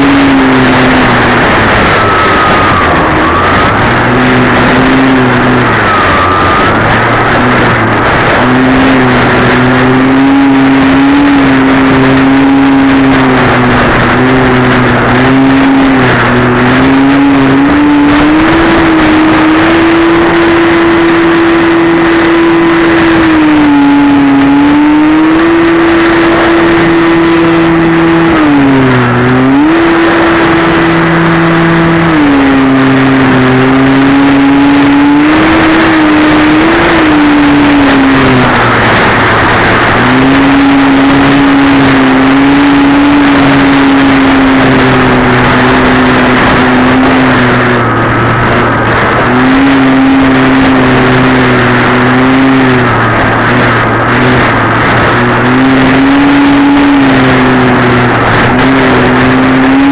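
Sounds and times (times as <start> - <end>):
rush of air: 0.0 - 59.9.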